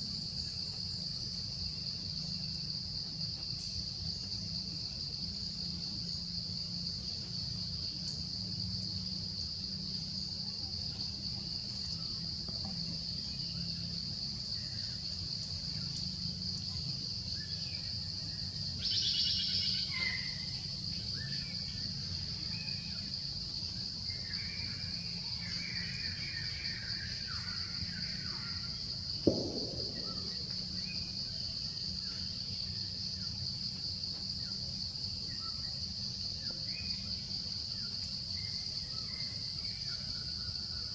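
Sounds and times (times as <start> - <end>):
low background hum: 0.0 - 35.6
insect chorus: 0.0 - 40.9.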